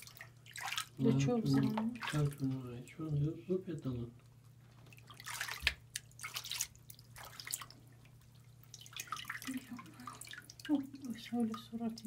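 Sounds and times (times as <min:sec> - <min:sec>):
water splashing in basin: 0:00.0 - 0:03.2, 0:04.9 - 0:12.0.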